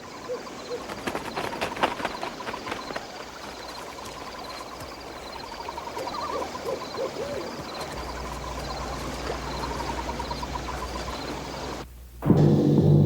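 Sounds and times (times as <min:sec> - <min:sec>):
rapid repeated chirping: 0:00.0 - 0:11.8
owl hooting: 0:00.2 - 0:11.8.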